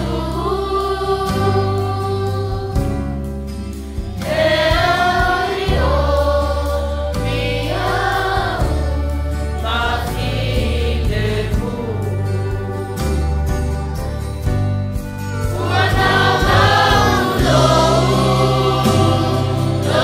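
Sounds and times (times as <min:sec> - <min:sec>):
choir singing a hymn: 0:00.0 - 0:14.0, 0:15.4 - 0:20.0
sustained low bass notes: 0:00.0 - 0:20.0.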